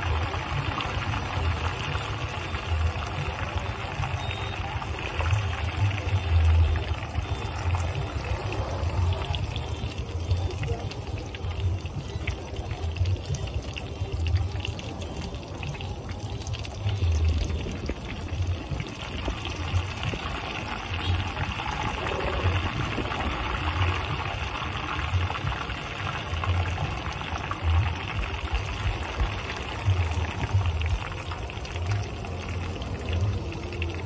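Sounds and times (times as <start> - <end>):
egg frying in sizzling oil: 0.0 - 34.0.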